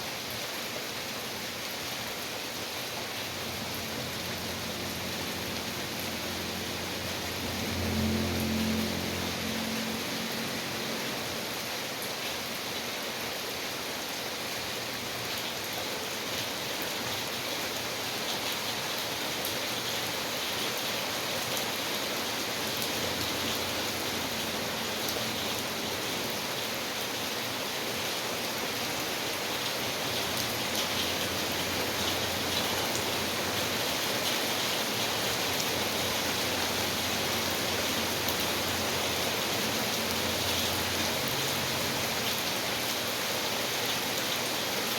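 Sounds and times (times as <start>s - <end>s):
steady rain falling: 0.0s - 44.9s
raindrops pattering on surfaces: 0.1s - 44.9s.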